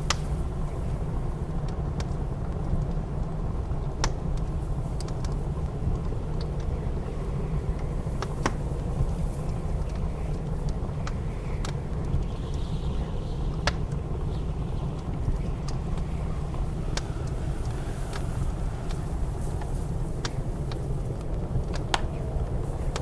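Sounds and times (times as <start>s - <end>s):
blizzard wind rumbling: 0.0s - 23.0s
wood fire crackling in a fireplace: 0.0s - 23.0s.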